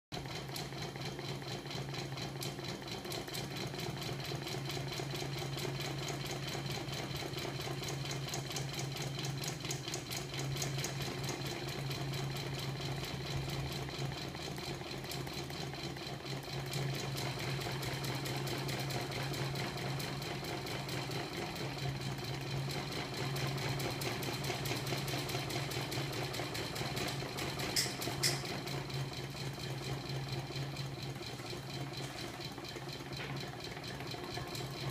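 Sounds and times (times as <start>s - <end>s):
machine whirring with rapid clatter: 0.1s - 34.9s.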